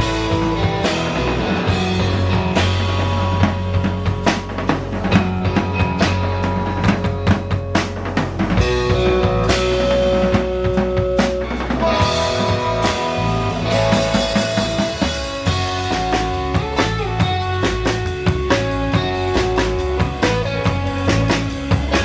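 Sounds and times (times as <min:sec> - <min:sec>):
bass guitar: 0:00.0 - 0:22.0
drum kit beating: 0:00.0 - 0:22.0
electric guitar melody: 0:00.0 - 0:22.0.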